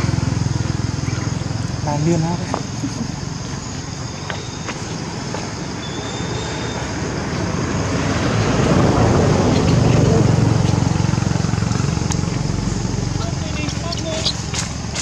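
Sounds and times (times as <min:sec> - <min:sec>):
engine passing by: 0:00.0 - 0:04.0, 0:05.0 - 0:15.0.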